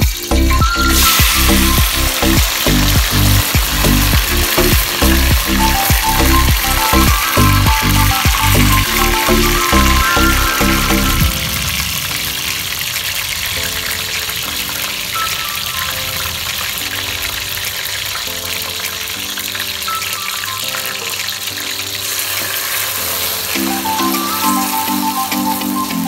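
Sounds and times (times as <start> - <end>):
background music: 0.0 - 26.0
tomato frying in hot oil: 0.0 - 26.0.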